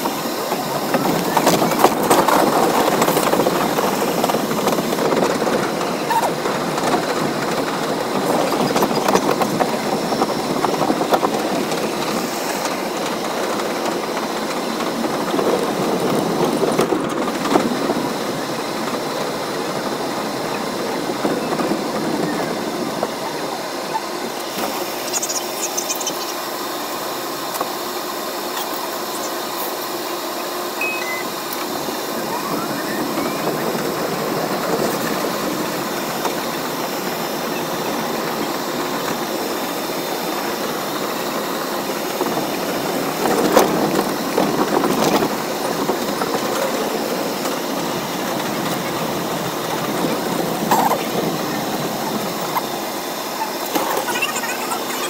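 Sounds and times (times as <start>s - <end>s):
subway train running on track: 0.0s - 55.0s.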